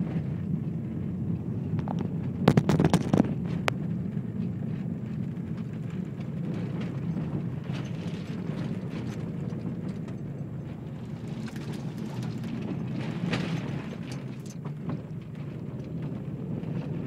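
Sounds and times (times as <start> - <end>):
engine drone: 0.0 - 17.0
tyres rumbling on dirt: 0.0 - 17.0.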